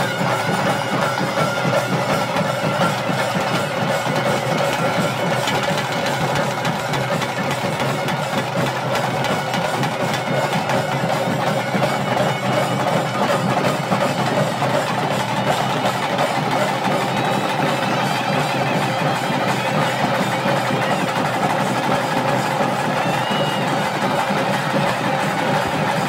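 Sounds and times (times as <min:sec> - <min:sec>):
dense steady drumming: 0:00.0 - 0:26.0
reed wind instrument held notes: 0:00.0 - 0:26.0.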